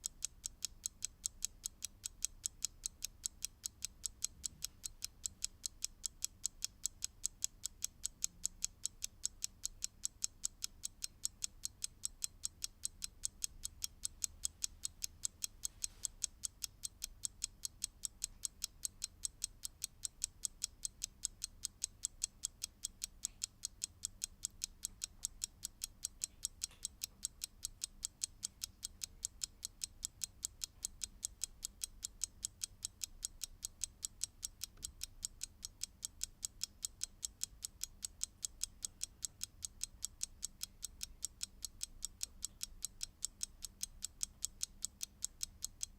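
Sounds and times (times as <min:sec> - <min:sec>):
mechanical clock ticking: 0:00.0 - 0:45.9.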